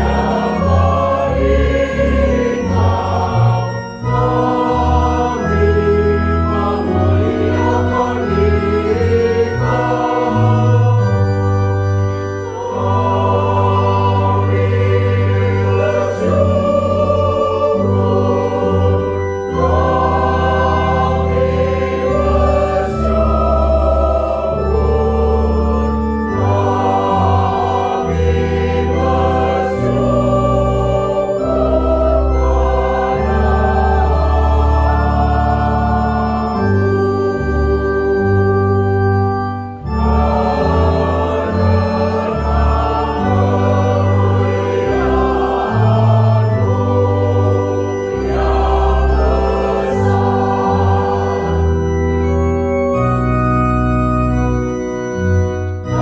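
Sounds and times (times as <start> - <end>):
mixed choir singing: 0.0 - 11.5, 12.4 - 38.1, 39.9 - 52.6
organ sustained chords: 0.0 - 56.0.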